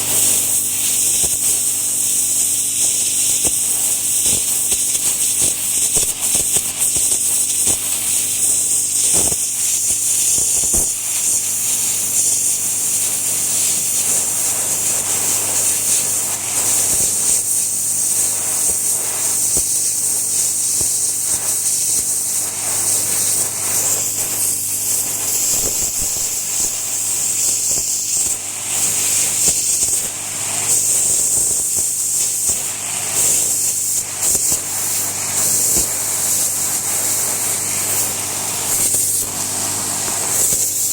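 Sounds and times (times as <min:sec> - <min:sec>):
pressure washer water jet hiss: 0:00.0 - 0:40.9.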